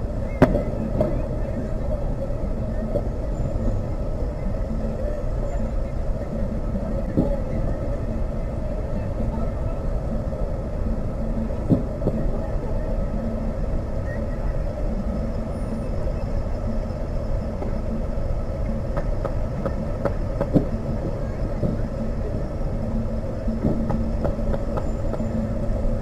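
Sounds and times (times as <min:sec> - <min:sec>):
low hum: 0:00.0 - 0:26.0
steady outdoor rumble: 0:00.0 - 0:26.0.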